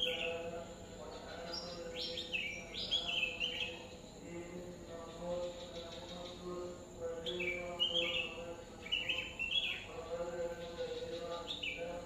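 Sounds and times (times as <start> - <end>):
small birds twittering: 0.0 - 12.0.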